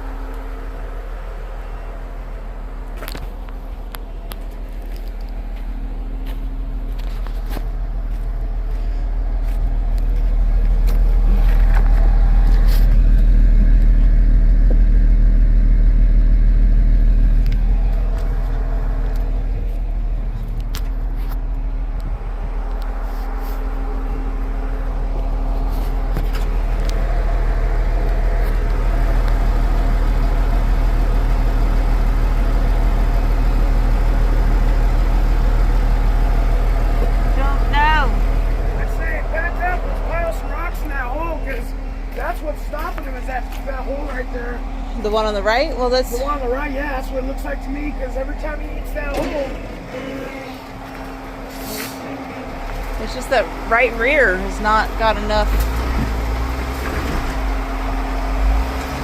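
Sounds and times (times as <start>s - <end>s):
off-road engine under load: 0.0s - 59.0s.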